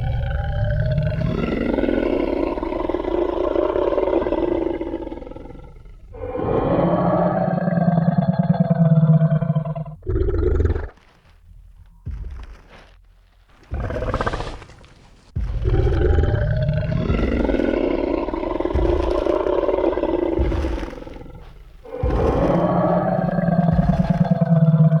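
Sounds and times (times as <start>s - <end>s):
deep dinosaur roar: 0.0s - 11.0s, 13.6s - 25.0s
dinosaur growl: 0.0s - 11.1s, 13.6s - 25.0s.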